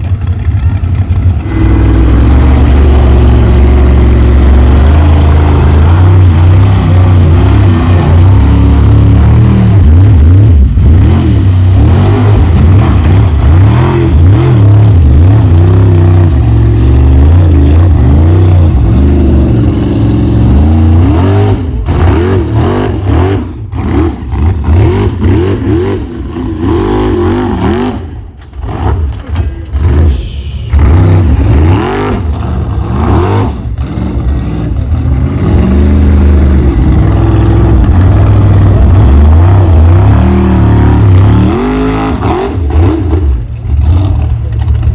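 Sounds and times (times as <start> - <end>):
race truck engine revving: 0.0 - 44.9.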